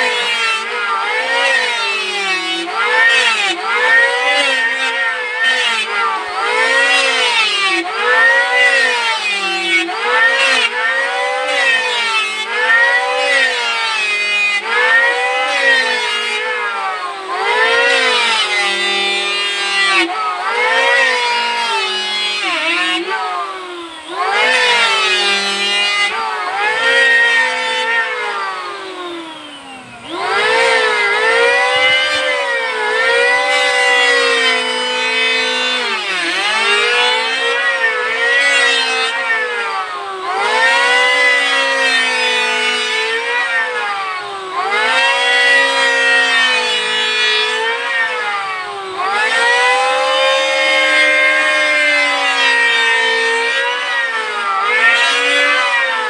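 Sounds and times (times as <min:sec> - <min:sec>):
electric wood planer whining: 0:00.0 - 0:56.0.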